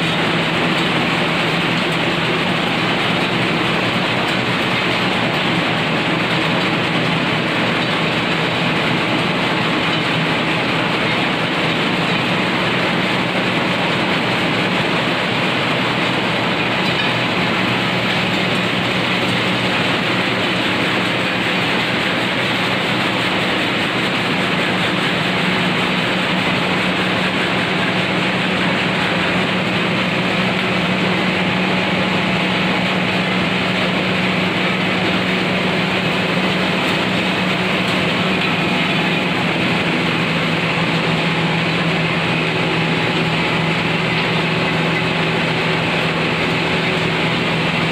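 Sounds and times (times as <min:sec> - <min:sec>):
grinding machine running: 0:00.0 - 0:47.9.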